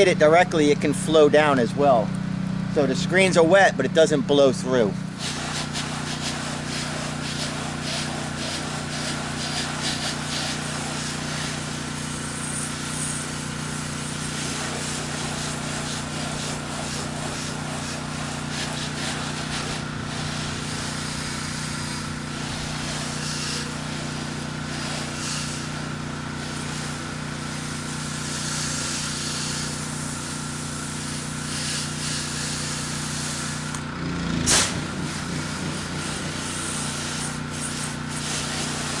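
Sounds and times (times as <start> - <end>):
pressure washer engine running: 0.0 - 39.0
fan spray hiss: 4.6 - 39.0.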